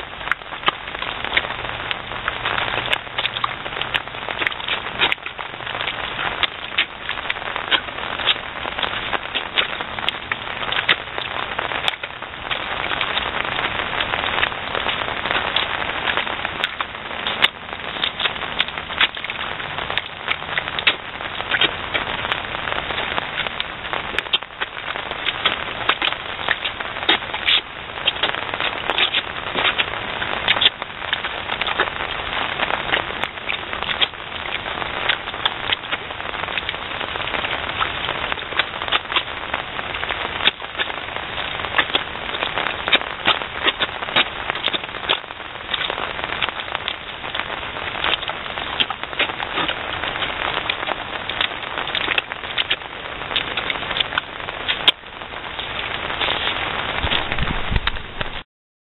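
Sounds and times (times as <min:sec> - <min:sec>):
sharp crackling drop impacts: 0:00.0 - 0:58.4
steady rain falling: 0:00.0 - 0:58.4.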